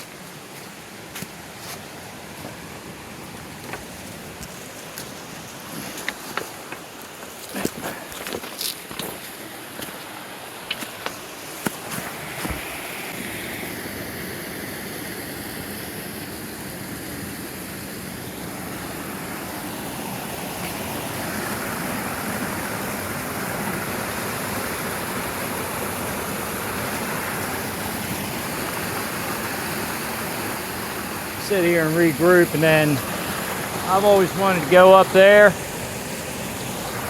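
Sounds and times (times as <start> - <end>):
creek water rushing over rocks: 0.0 - 37.0.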